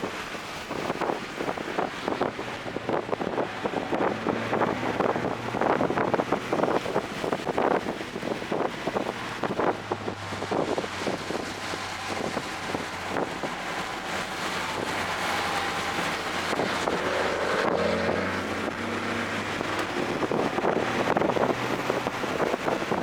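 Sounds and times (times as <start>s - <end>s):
car engine driven hard: 0.0s - 23.0s
road roar: 0.0s - 23.0s
wind noise: 0.0s - 23.0s.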